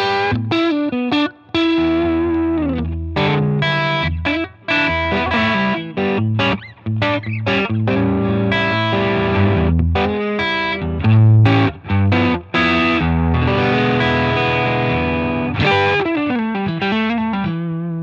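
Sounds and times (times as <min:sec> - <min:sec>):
electric guitar chords and notes: 0:00.0 - 0:18.0.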